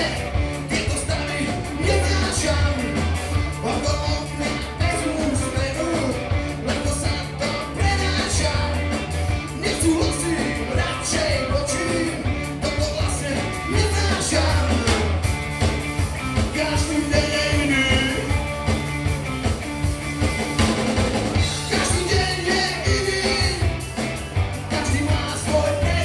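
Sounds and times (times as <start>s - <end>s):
lead vocal singing: 0.0s - 15.2s, 16.5s - 18.3s, 21.4s - 23.9s, 24.6s - 26.0s
bass guitar: 0.0s - 26.0s
drum kit: 0.0s - 26.0s
electric guitars: 0.0s - 26.0s.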